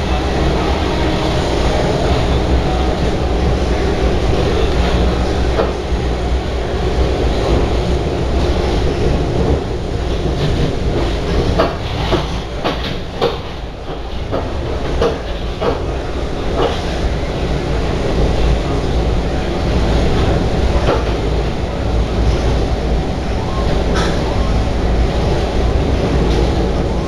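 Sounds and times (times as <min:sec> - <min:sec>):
train running gear rumbling: 0:00.0 - 0:27.0.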